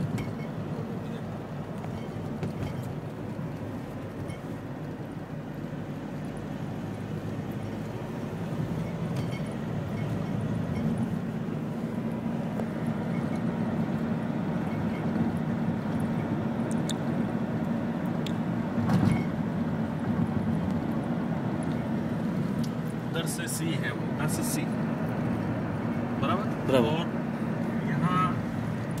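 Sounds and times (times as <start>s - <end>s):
car tyres and engine hum: 0.0s - 29.0s.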